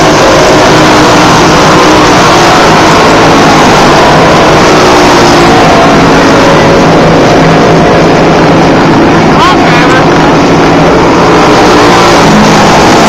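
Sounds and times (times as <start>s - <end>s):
racing kart engines: 0.0s - 13.0s.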